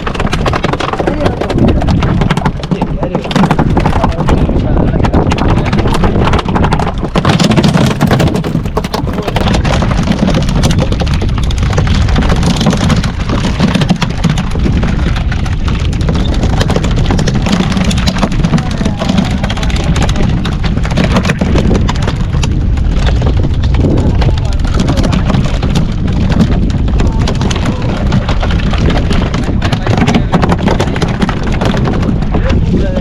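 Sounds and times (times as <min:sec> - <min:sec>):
clicks and knocks: 0:00.0 - 0:32.7
boat engine rumbling: 0:00.0 - 0:33.0.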